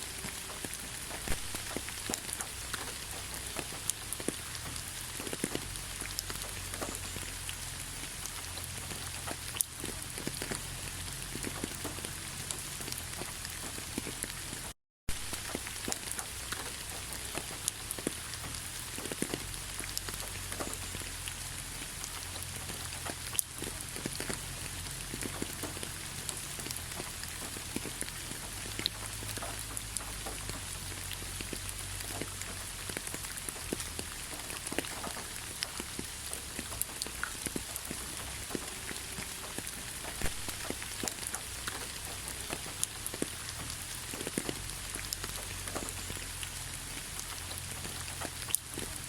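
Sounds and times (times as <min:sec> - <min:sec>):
rain pattering on a surface: 0:00.0 - 0:49.0.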